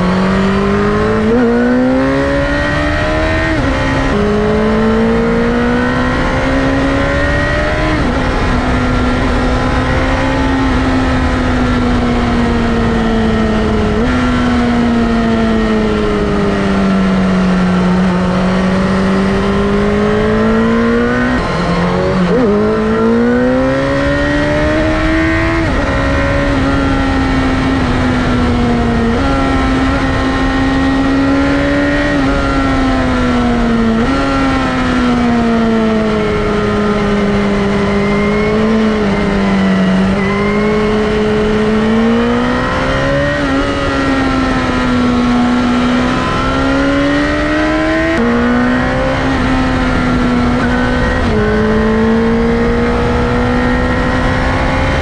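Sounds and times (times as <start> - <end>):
motorcycle engine while riding: 0.0 - 55.0
wind and road noise: 0.0 - 55.0.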